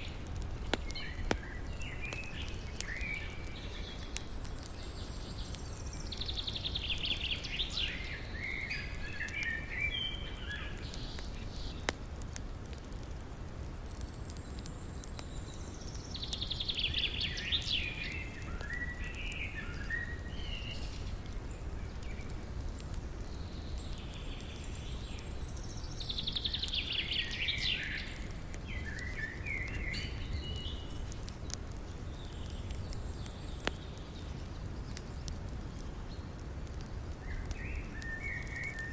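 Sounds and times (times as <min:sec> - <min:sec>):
faint fire crackles: 0:00.0 - 0:38.9.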